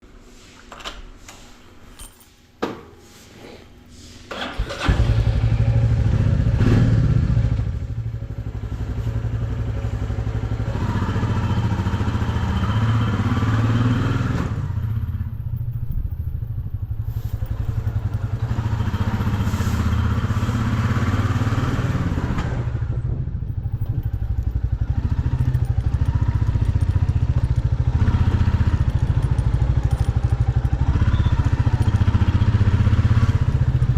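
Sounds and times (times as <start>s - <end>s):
motorcycle engine running: 4.8s - 33.9s.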